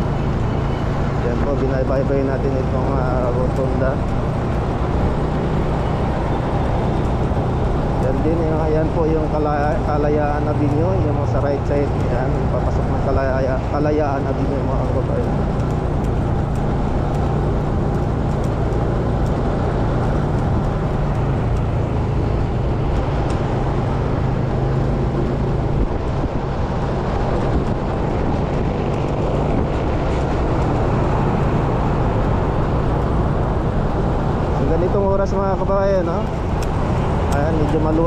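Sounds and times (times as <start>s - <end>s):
scooter engine hum: 0.0s - 38.0s
wind and road noise: 0.0s - 38.0s.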